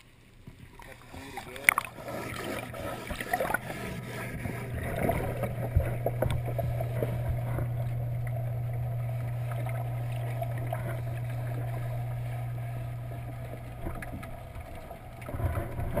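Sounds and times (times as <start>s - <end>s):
muffled underwater machinery hum: 0.0s - 16.0s.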